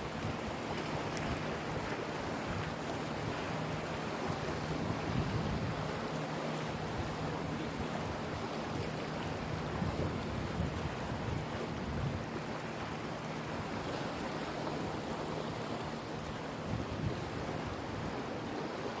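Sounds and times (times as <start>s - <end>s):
sea waves washing ashore: 0.0s - 19.0s.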